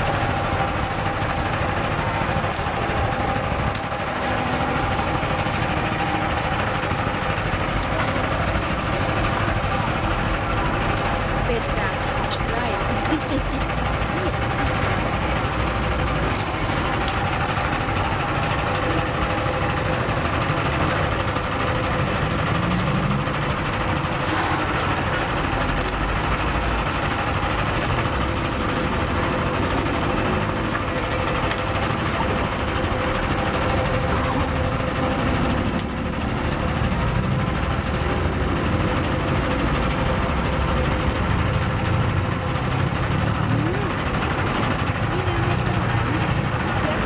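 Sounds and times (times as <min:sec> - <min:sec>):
cane press motor droning: 0:00.0 - 0:47.0.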